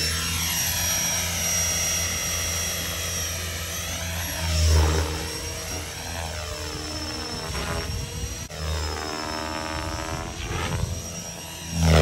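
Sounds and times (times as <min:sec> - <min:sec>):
model helicopter motor whine: 0:00.0 - 0:12.0.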